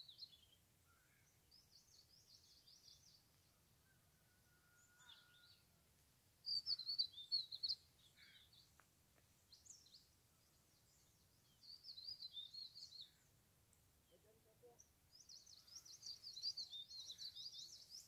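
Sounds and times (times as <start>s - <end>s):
small songbirds twittering: 0.0s - 5.8s, 6.4s - 18.0s.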